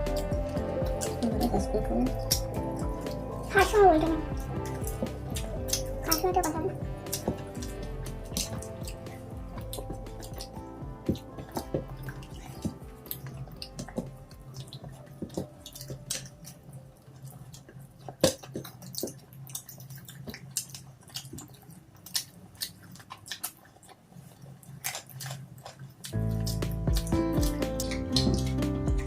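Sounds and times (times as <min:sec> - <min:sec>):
faint background music: 0:00.0 - 0:29.0
people chewing food: 0:00.0 - 0:29.0.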